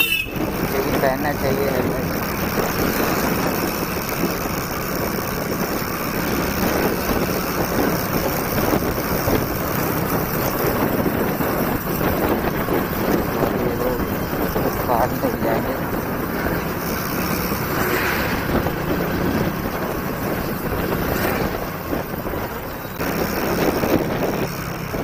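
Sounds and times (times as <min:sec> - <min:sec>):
motorcycle engine running: 0:00.0 - 0:25.0
wind noise on microphone: 0:00.0 - 0:25.0.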